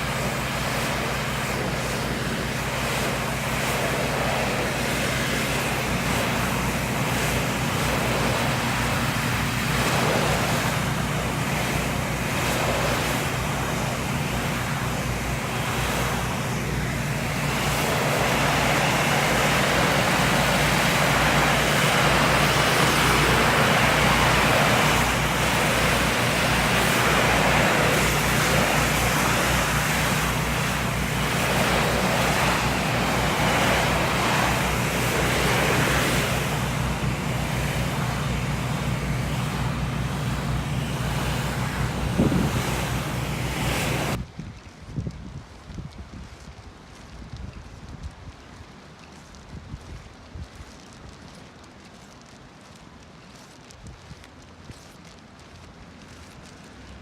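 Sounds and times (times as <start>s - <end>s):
pressure washer spraying concrete: 0.0s - 44.2s, 48.5s - 57.0s.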